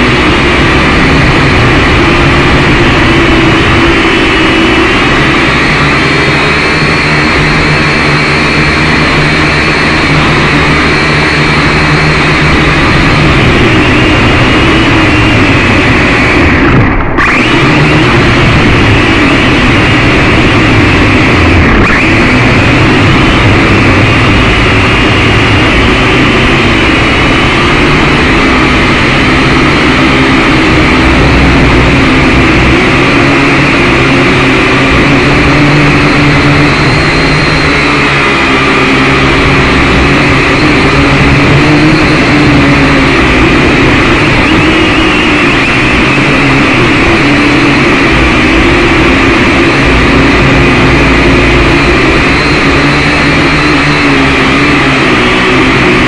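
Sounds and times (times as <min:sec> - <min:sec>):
drone propellers whining: 0:00.0 - 0:56.0.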